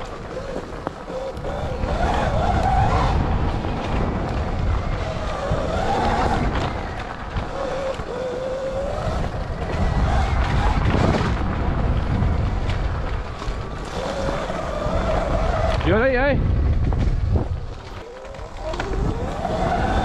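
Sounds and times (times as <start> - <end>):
dirt bike motor whine: 0.0 - 20.0
wind buffeting microphone: 0.0 - 20.0.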